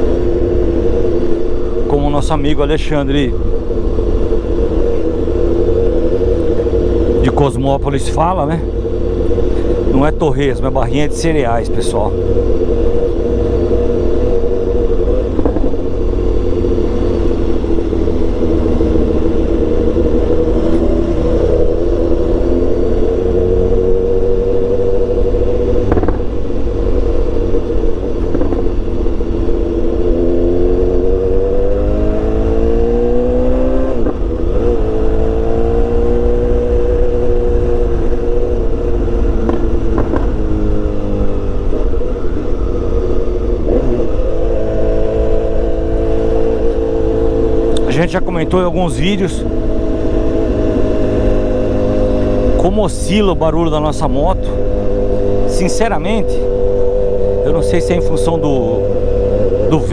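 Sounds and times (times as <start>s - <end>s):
wind rumble on microphone: 0.0s - 58.1s
motorcycle engine: 0.0s - 59.9s.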